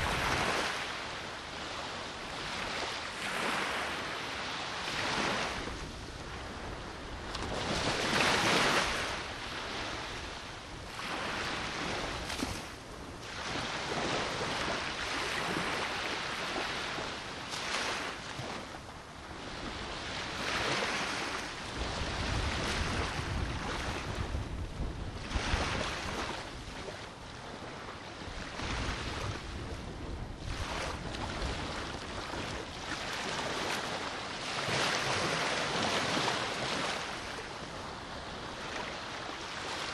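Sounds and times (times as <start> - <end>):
sea waves washing onto shore: 0.0 - 39.9
wind gusting across microphone: 0.0 - 39.9.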